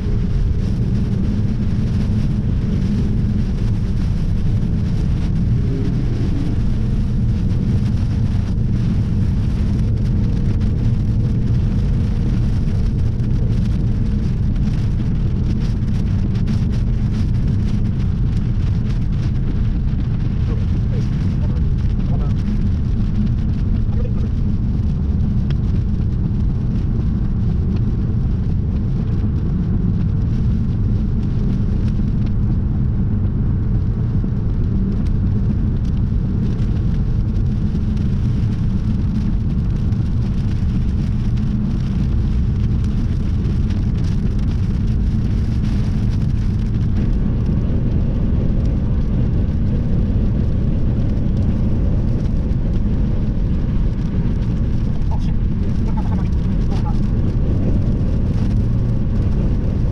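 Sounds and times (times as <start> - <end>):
faint rain ticking: 0.0 - 59.9
storm wind buffeting microphone: 0.0 - 59.9.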